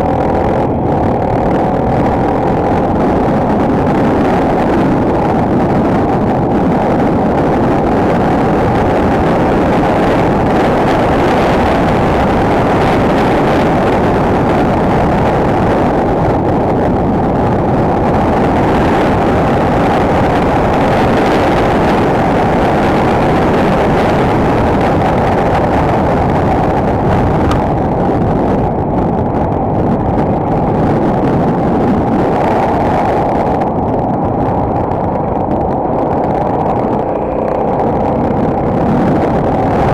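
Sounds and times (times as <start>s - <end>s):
muffled motorcycle engine: 0.0s - 39.9s
wind rushing: 0.0s - 39.9s.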